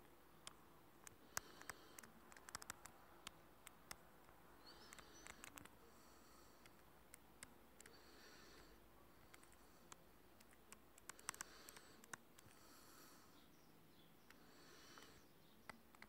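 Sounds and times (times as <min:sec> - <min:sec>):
faint irregular clicks: 0:00.0 - 0:16.0.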